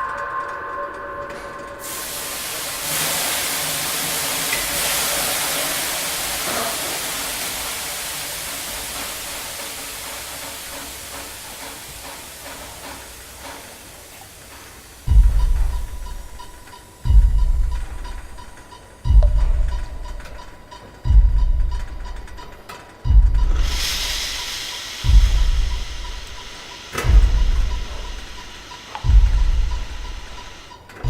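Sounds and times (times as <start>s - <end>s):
steam hissing: 0.0s - 31.0s.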